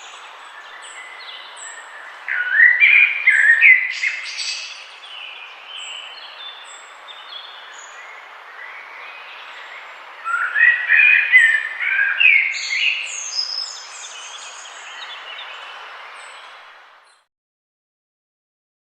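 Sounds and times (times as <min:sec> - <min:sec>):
background hiss: 0:00.0 - 0:17.2
songbirds chirping and trilling: 0:00.0 - 0:17.3.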